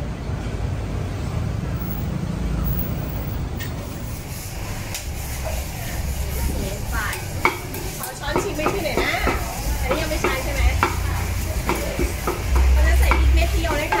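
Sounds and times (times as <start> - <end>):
indistinct voices: 1.1 - 14.0.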